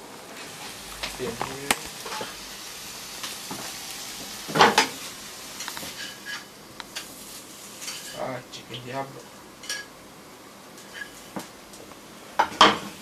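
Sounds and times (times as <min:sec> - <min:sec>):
chicken sizzling in a pan: 0:00.0 - 0:10.0, 0:10.6 - 0:13.0.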